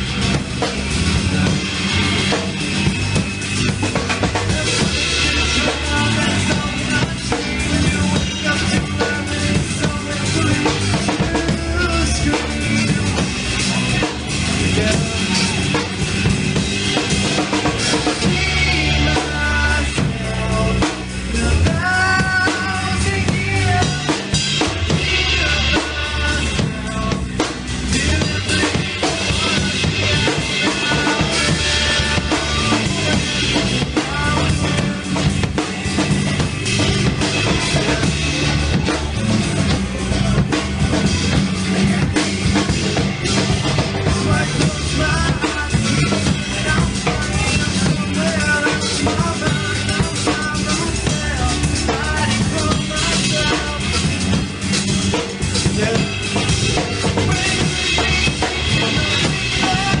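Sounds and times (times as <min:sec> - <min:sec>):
drum kit beat: 0:00.0 - 1:00.0
rock band playing: 0:00.0 - 1:00.0.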